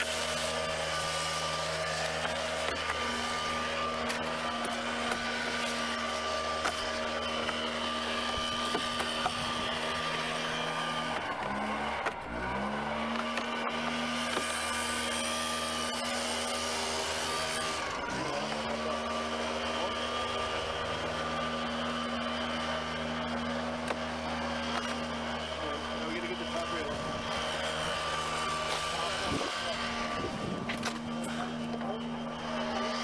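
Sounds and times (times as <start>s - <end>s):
motor running: 0.0s - 33.0s.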